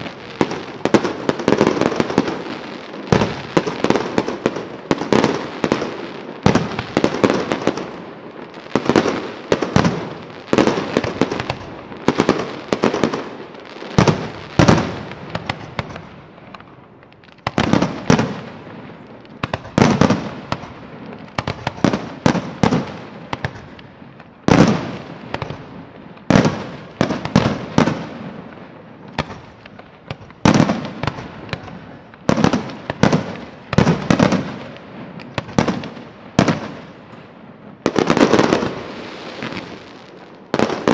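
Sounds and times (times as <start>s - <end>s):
fireworks bursting: 0.0s - 40.9s
fireworks rumble and crackle: 0.0s - 40.9s.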